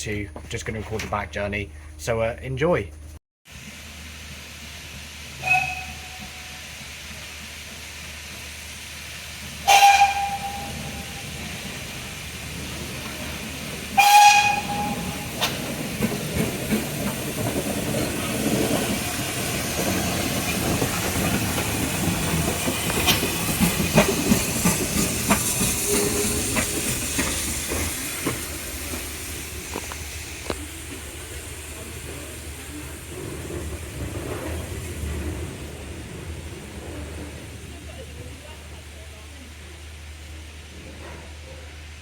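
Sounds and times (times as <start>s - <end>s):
train rushing past: 3.6s - 42.0s
wheels clicking on track: 4.2s - 41.9s.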